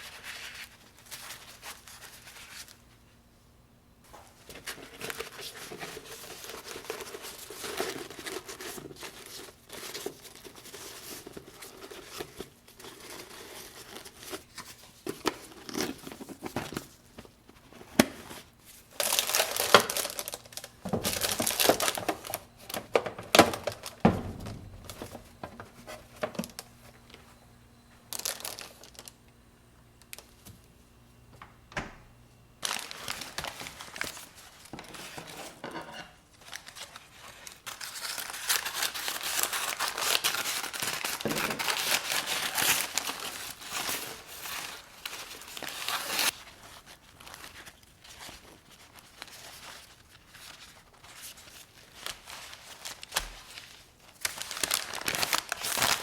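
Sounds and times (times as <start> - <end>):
wrapping crinkling and tearing: 4.5 - 27.2, 28.1 - 29.2, 32.6 - 35.5, 36.3 - 56.0.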